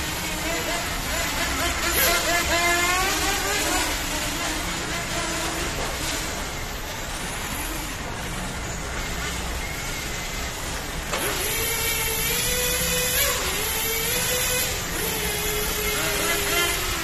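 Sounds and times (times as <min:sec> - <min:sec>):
electric motor and gear whine: 0:00.0 - 0:17.0
toy car tyre and drivetrain noise: 0:00.0 - 0:17.0.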